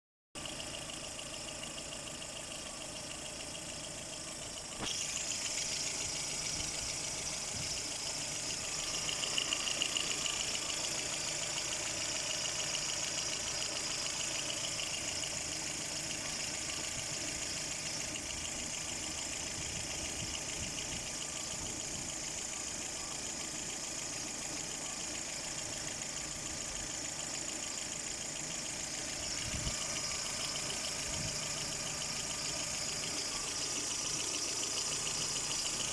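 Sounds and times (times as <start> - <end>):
car engine idling with knock: 0.4 - 35.9.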